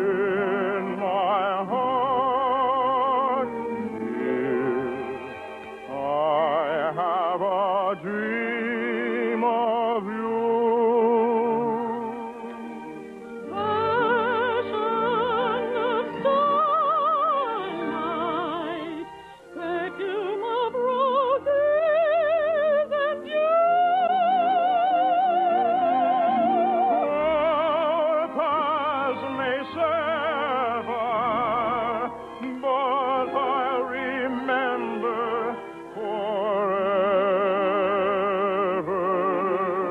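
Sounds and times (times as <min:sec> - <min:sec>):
operetta singing: 0:00.0 - 0:39.9
orchestral accompaniment: 0:00.0 - 0:39.9.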